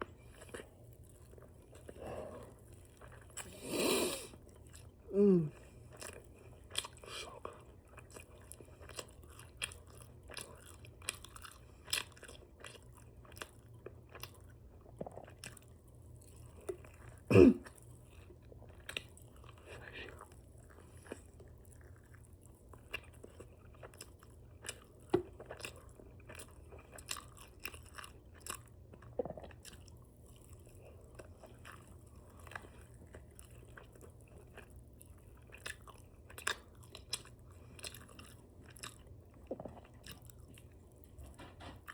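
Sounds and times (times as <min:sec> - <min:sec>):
open-mouth chewing: 0:00.0 - 0:41.9.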